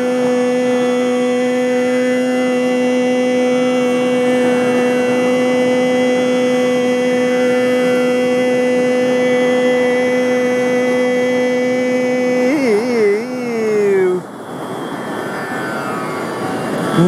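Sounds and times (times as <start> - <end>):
man singing long note: 0.0 - 14.3
tambura drone: 0.0 - 17.0.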